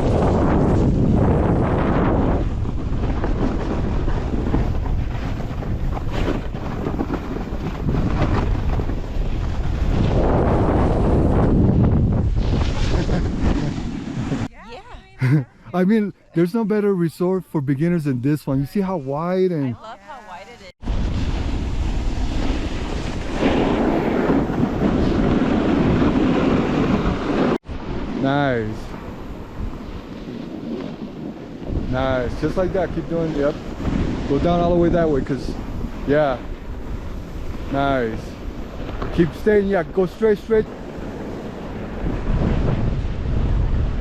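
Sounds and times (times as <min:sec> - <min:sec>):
snowboard sliding over snow: 0:00.0 - 0:16.5, 0:19.6 - 0:44.0
wind buffeting microphone: 0:00.0 - 0:16.6, 0:20.8 - 0:44.0.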